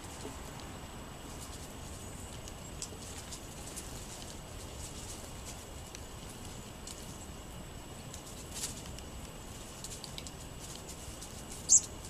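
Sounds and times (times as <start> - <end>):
birds pecking on wood: 0.0 - 12.0.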